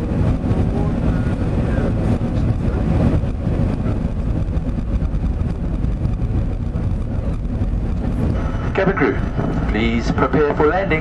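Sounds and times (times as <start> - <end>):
airflow over aircraft fuselage: 0.0 - 11.0
jet engines running: 0.0 - 11.0.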